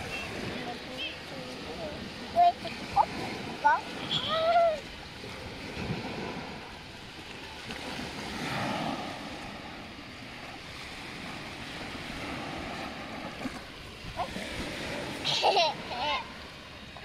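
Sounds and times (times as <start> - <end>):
waves washing onto pebble beach: 0.0 - 17.0
wind on microphone: 0.0 - 17.0.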